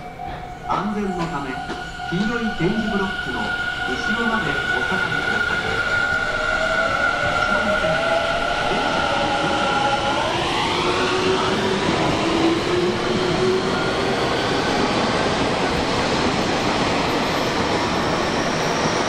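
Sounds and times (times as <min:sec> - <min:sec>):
electric train running past: 0:00.0 - 0:19.0.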